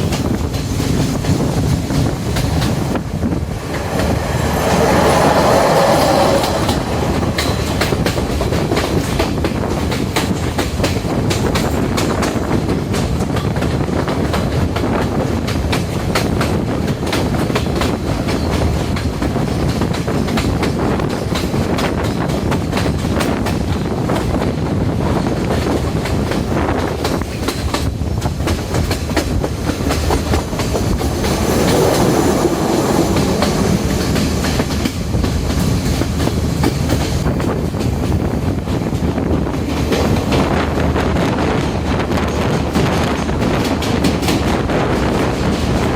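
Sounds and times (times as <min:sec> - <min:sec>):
wheels clicking over rail joints: 0:00.0 - 0:40.8
train rumbling: 0:00.0 - 0:45.9.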